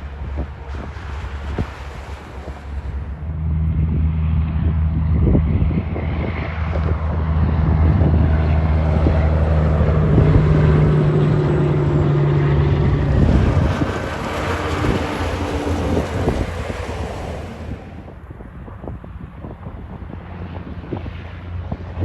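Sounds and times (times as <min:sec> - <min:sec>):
truck diesel engine droning: 0:00.0 - 0:18.9
tyre and wind noise: 0:00.0 - 0:22.0.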